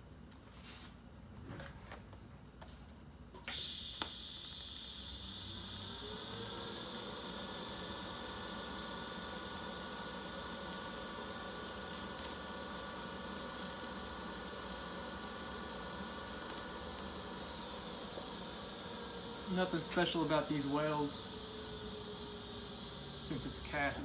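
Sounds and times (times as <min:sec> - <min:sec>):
welding arc buzzing hiss: 0:03.4 - 0:24.0.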